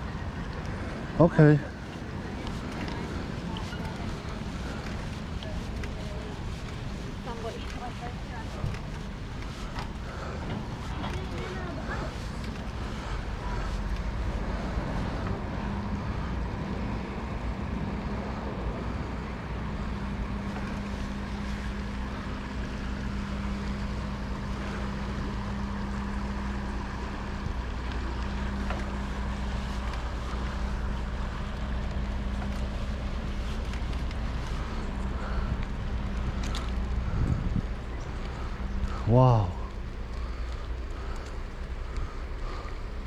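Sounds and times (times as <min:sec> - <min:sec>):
wind buffeting microphone: 0:00.0 - 0:39.0
bicycle tyres on paved path: 0:00.0 - 0:43.0.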